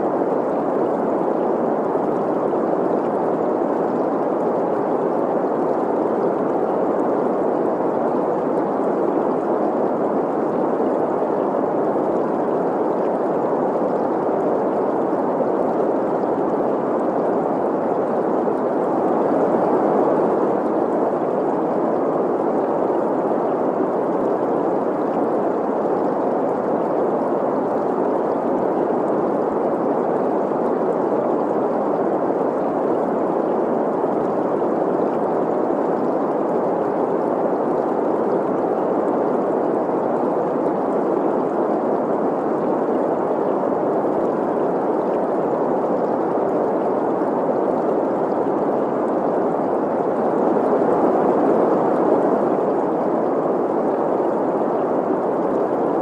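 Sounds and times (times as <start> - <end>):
flowing stream: 0.0 - 56.0.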